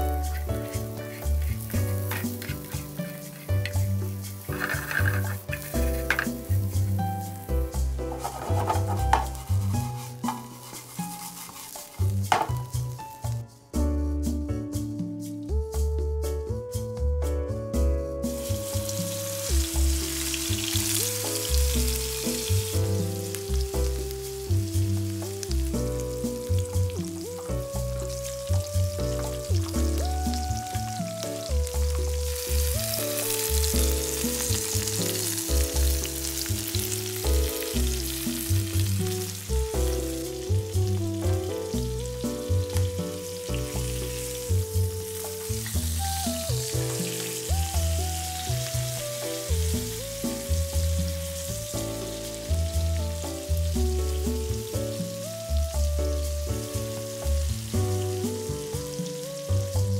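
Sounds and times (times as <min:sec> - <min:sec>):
meat sizzling in hot oil: 0:00.0 - 0:13.5, 0:18.2 - 0:59.9.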